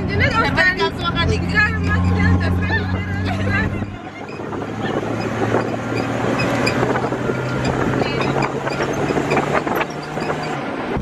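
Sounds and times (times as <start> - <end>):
body and seats rattling: 0.0 - 11.0
truck engine drone: 0.0 - 11.0
wind buffeting microphone: 0.0 - 11.0.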